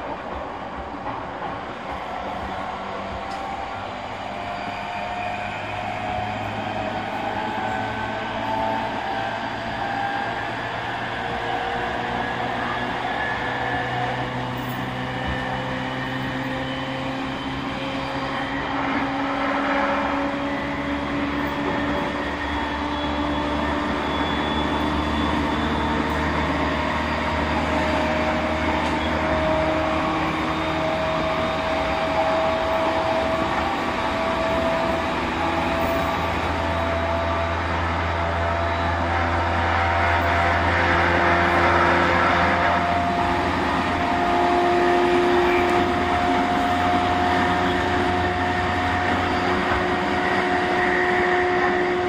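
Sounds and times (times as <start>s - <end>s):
wheels rumbling on rail: 0.0s - 52.0s
train motor whine rising: 0.8s - 52.0s.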